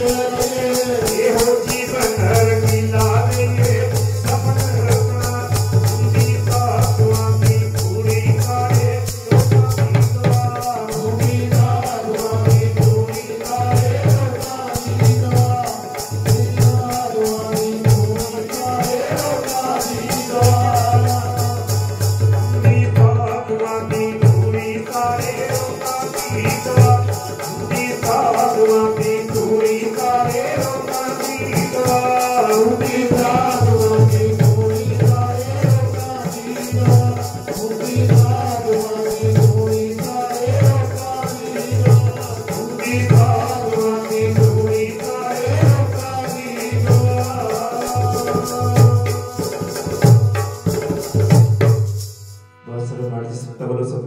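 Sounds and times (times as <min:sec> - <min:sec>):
harmonium melody: 0:00.0 - 0:54.0.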